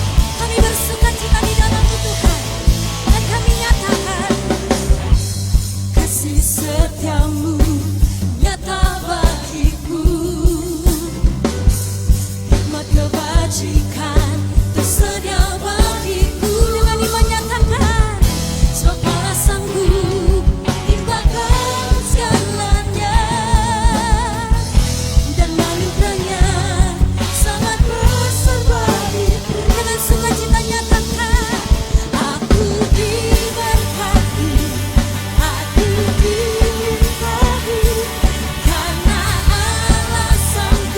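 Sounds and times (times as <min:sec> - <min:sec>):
person singing: 0:00.0 - 0:04.9, 0:12.4 - 0:40.9
drums beating: 0:00.0 - 0:40.9
worship band playing: 0:00.0 - 0:40.9.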